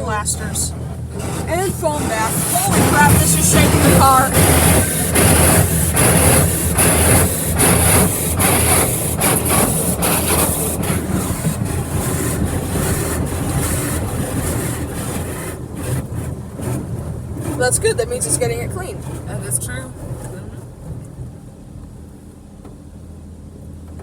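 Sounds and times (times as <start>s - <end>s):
water jets spraying car: 0.0s - 22.4s
low pump hum: 0.0s - 24.0s.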